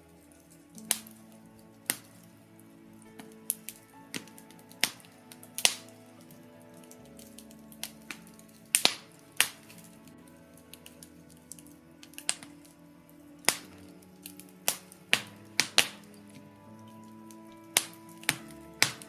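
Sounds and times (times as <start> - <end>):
logs crackling in fireplace: 0.0 - 19.0
soft musical drone: 0.0 - 19.0.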